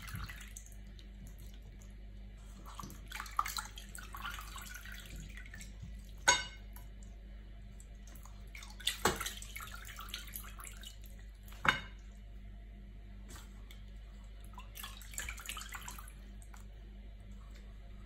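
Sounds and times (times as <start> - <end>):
water sloshing and dripping: 0.0 - 12.4, 13.2 - 18.0.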